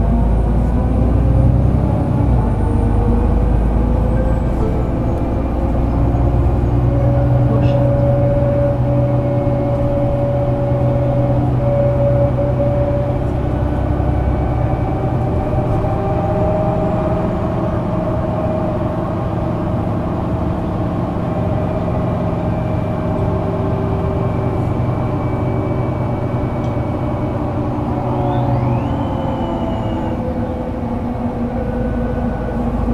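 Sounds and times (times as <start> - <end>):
bus diesel engine humming: 0.0 - 32.9.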